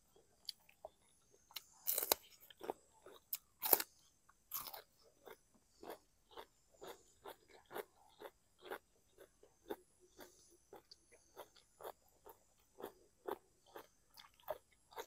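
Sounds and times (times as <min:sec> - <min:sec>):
crunching and chewing vegetables: 0:00.0 - 0:15.0.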